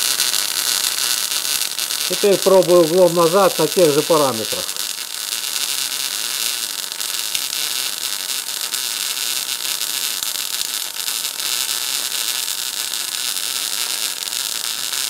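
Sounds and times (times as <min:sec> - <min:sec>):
welding arc hissing and crackling: 0:00.0 - 0:15.0.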